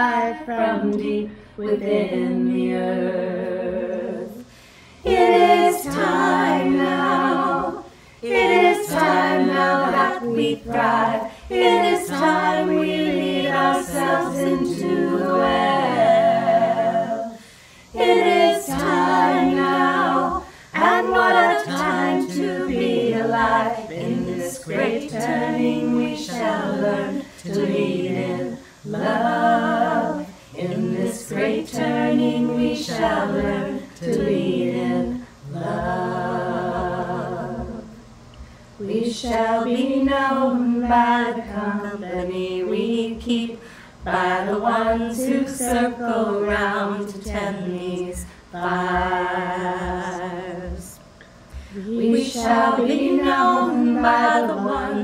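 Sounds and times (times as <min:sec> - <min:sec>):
women singing a cappella: 0:00.0 - 0:55.0.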